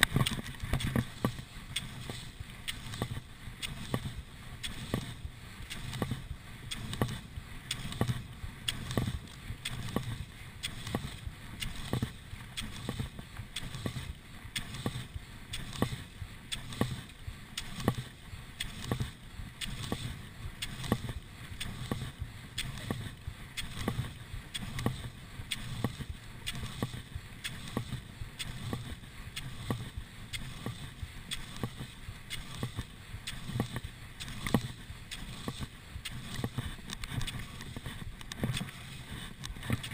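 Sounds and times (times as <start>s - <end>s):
ski poles crunching in snow: 0.0s - 39.9s
skis swishing: 0.0s - 39.9s.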